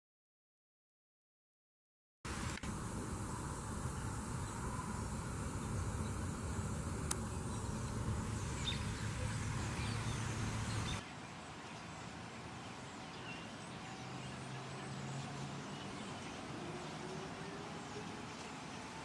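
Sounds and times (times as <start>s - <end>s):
low steady hum: 2.3s - 19.0s.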